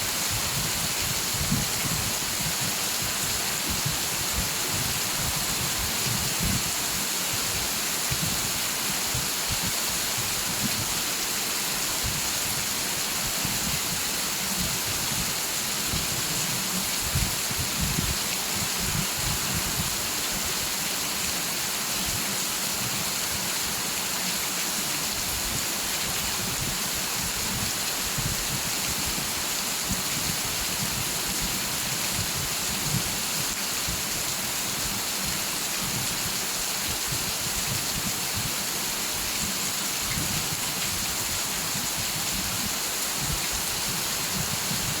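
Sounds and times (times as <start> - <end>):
heavy rain hissing: 0.0 - 45.0.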